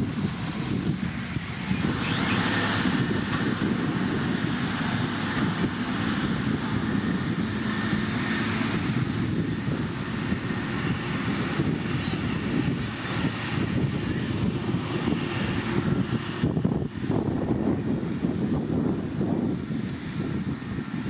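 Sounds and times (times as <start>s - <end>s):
heavy machinery diesel engine running: 0.0s - 19.3s.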